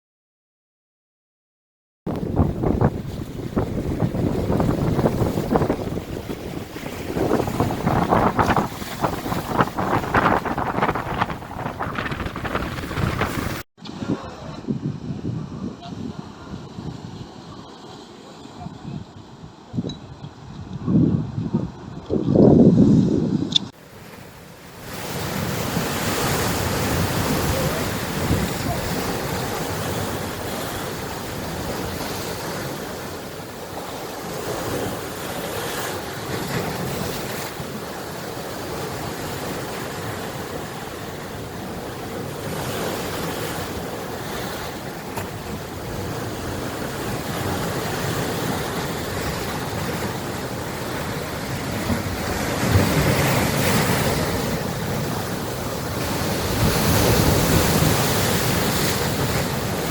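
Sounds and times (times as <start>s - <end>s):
sea waves breaking: 2.1s - 14.7s, 23.7s - 59.9s.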